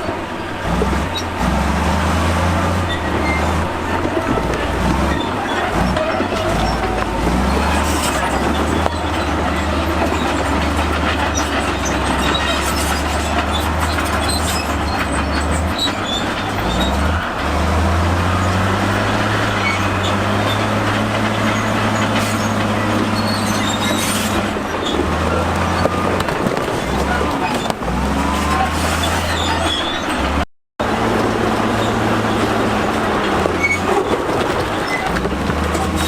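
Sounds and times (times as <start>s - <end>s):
bulldozer diesel engine running: 0.0s - 36.0s
steel tracks clattering: 0.0s - 36.0s.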